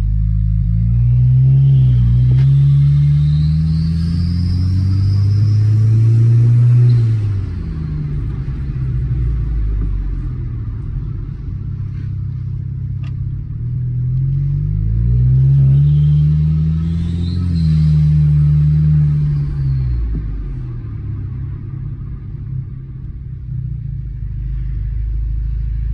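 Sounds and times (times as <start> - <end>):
car engine and exhaust under load: 0.0 - 25.9.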